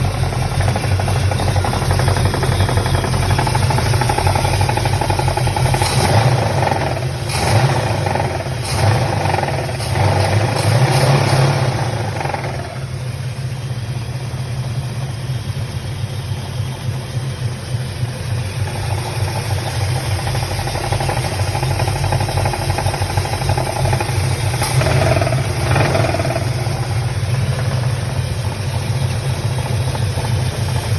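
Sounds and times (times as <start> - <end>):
engine knocking: 0.0 - 30.9.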